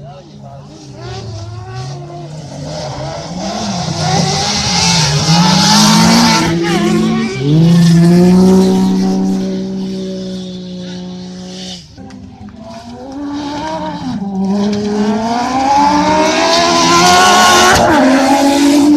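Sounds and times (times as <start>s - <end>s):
buggy engines revving past: 0.7s - 18.9s.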